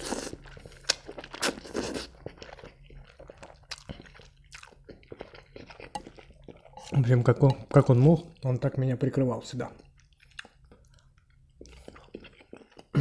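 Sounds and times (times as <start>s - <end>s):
chewing with wet mouth clicks: 0.4s - 8.5s, 9.8s - 12.9s.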